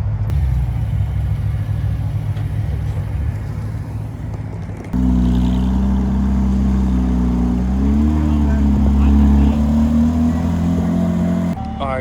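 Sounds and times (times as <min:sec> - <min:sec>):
car engines idling: 0:00.0 - 0:11.6
loud engine drone: 0:00.3 - 0:04.4, 0:05.0 - 0:11.6.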